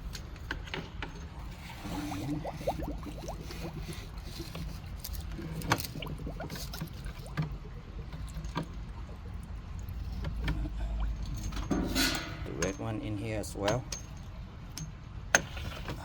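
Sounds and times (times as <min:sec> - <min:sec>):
water sloshing in a bucket: 0:00.2 - 0:13.9.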